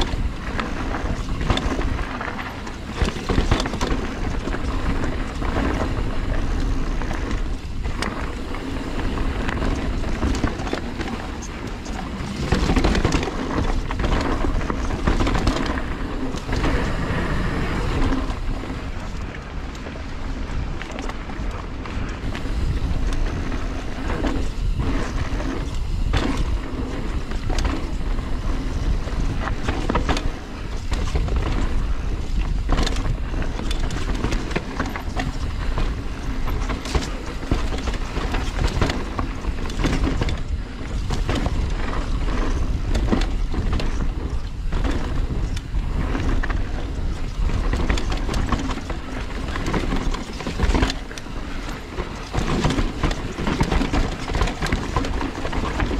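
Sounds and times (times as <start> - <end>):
bike knocking and rattling: 0.0 - 55.9
bike tyres on dirt and rock: 0.0 - 55.9
steady low rumble: 0.0 - 55.9.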